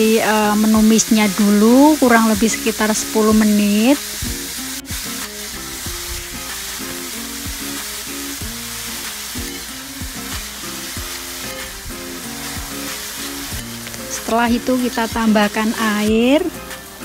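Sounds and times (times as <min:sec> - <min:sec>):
light background music: 0:00.0 - 0:17.0
utensil stirring in wok: 0:00.0 - 0:17.0
vegetables sizzling in a wok: 0:00.0 - 0:17.0.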